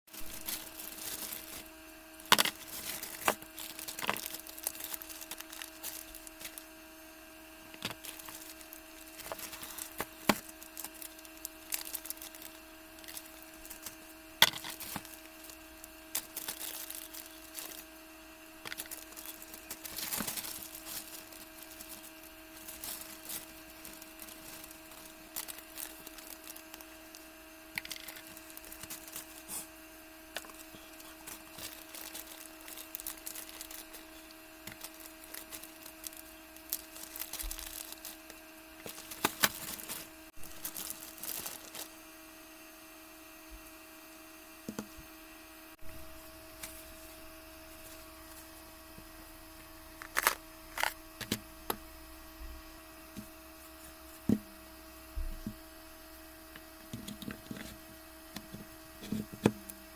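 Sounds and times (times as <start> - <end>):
electrical hum: 0.1 - 59.9.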